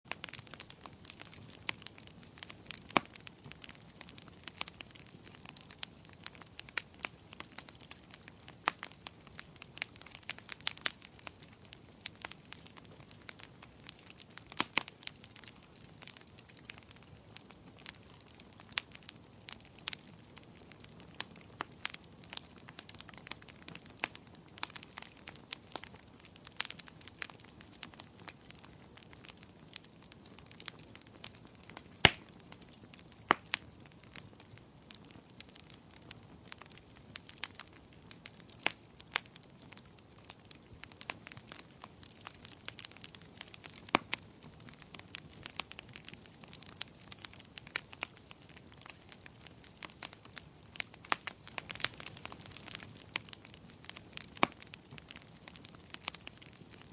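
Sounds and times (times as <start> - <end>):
wood fire crackling: 0.0 - 56.9
faint hiss of burning: 0.1 - 56.9.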